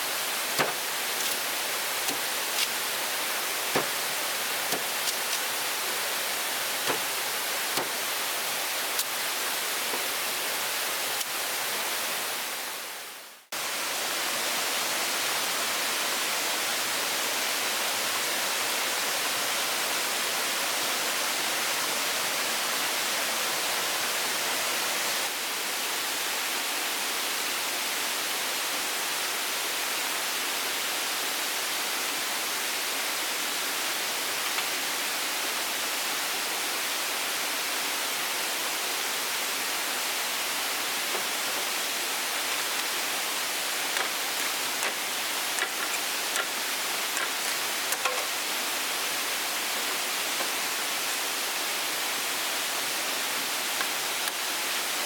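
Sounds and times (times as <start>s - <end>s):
rushing hiss of water: 0.0s - 55.0s.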